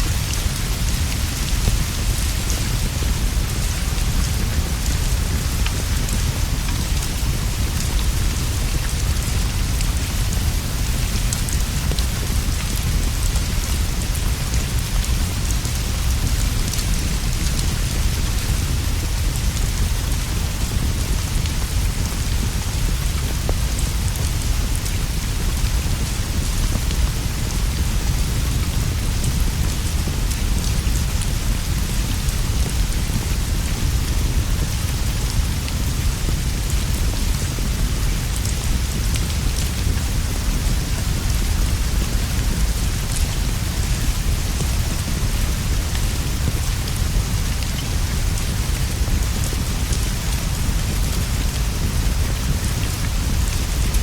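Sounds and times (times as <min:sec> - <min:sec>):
rain on leaves and straw roof: 0:00.0 - 0:54.0.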